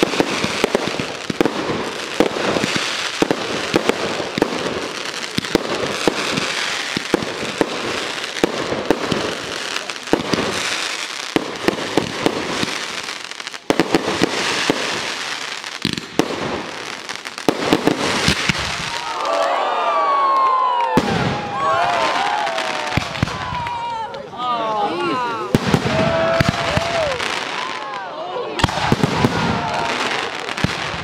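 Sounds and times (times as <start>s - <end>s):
fireworks hiss and crackle: 0.0s - 19.6s, 21.0s - 23.9s, 25.4s - 31.0s.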